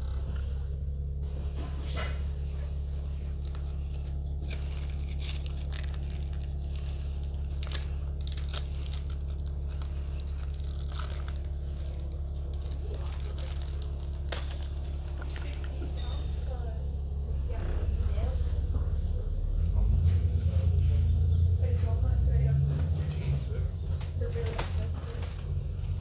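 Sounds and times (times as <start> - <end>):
bus engine hum: 0.0 - 26.0.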